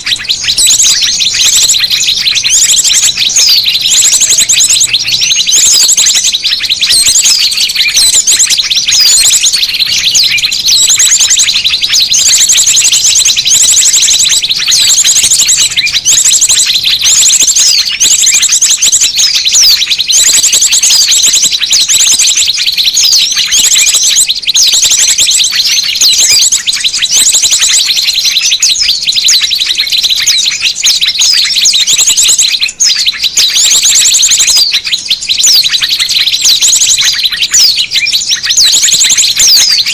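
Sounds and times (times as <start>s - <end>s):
small birds trilling and chirping: 0.0s - 39.9s.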